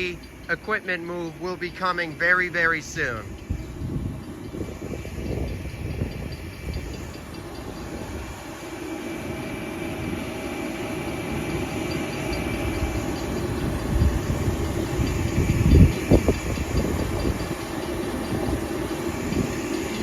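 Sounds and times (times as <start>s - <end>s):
train motor whine: 0.0s - 20.0s
train wheels rumbling: 0.0s - 20.0s.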